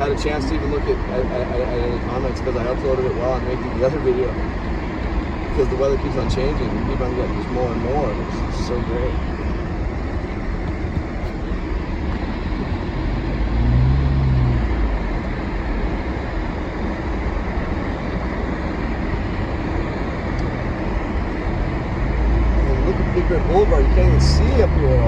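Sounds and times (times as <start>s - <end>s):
tyre and road noise: 0.0s - 25.0s
vehicle engine hum: 0.0s - 25.0s.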